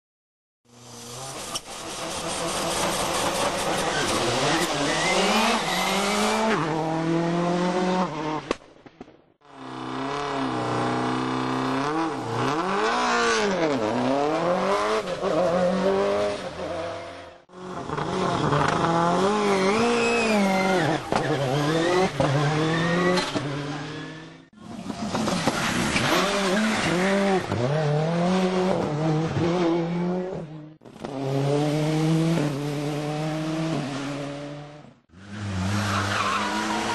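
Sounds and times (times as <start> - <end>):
rally car engines revving: 0.7 - 8.6, 9.5 - 36.9.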